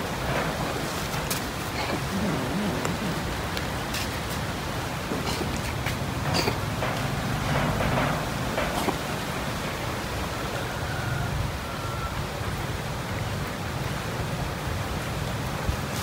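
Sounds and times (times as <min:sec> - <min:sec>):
background rumble and hiss: 0:00.0 - 0:16.0.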